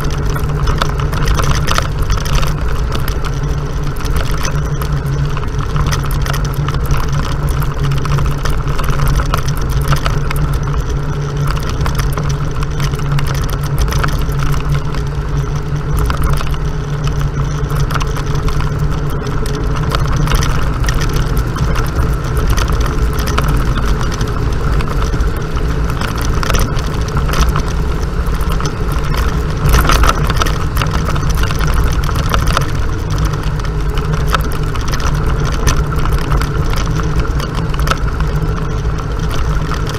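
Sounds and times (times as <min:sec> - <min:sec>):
knocks and rattles: 0:00.0 - 0:39.9
off-road vehicle engine running: 0:00.0 - 0:39.9.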